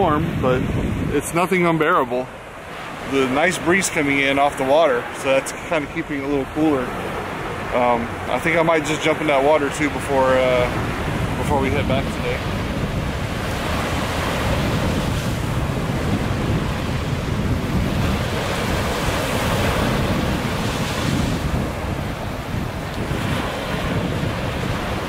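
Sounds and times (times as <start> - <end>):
small waves on sandy beach: 0.0 - 25.0
wind buffeting microphone: 0.0 - 25.0.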